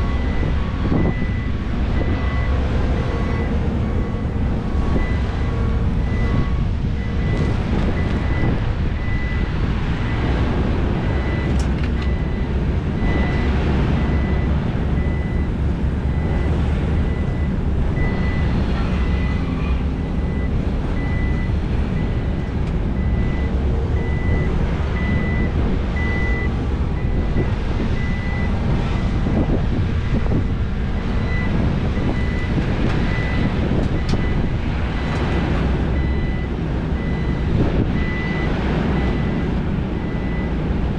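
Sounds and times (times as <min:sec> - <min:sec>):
reversing alarm beeping: 0:00.0 - 0:10.3, 0:11.0 - 0:40.6
diesel engines running: 0:00.0 - 0:40.9.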